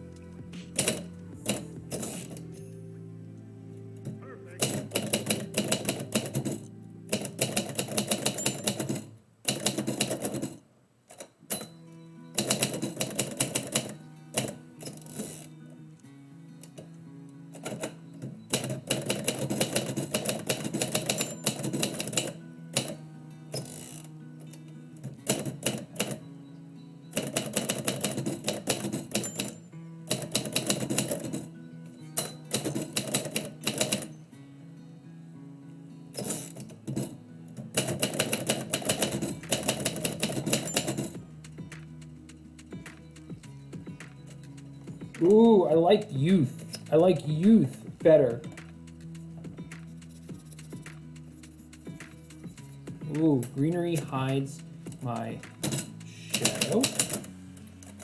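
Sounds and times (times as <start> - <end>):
soft background music: 0.0 - 58.0
typewriter keys striking: 0.6 - 2.5, 4.6 - 11.7, 12.4 - 15.5, 17.6 - 23.0, 25.0 - 26.2, 27.2 - 31.5, 32.2 - 34.1, 36.2 - 58.0.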